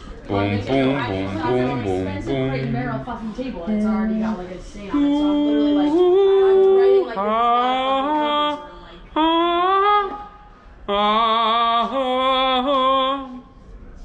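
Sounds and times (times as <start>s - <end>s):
man vocalising wordless tune: 0.0s - 3.1s, 4.9s - 13.5s.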